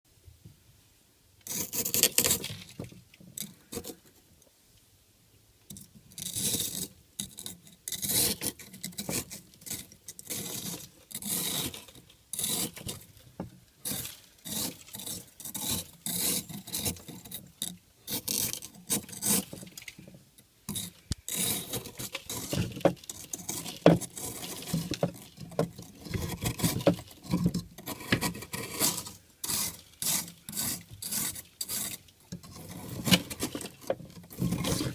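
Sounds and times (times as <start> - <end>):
ice being scraped off fridge: 1.5 - 2.9, 6.2 - 13.2, 13.8 - 20.0, 20.7 - 34.9.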